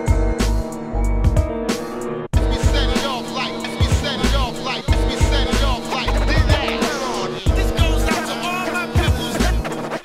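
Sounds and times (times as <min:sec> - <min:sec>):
hip hop music with heavy bass drum: 0:00.0 - 0:10.0.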